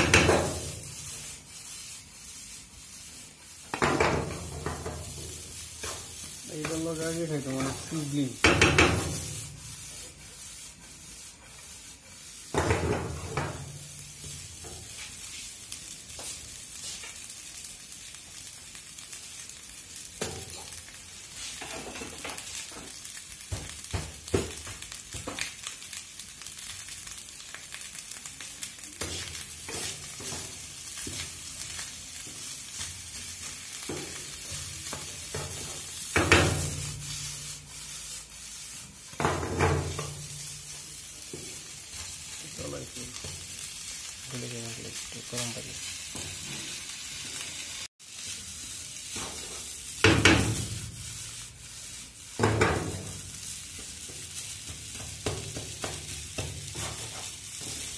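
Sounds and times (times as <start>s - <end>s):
wooden spatula stirring: 0.0s - 17.6s, 20.2s - 46.8s, 48.0s - 57.9s
rice sizzling in a frying pan: 0.0s - 57.9s.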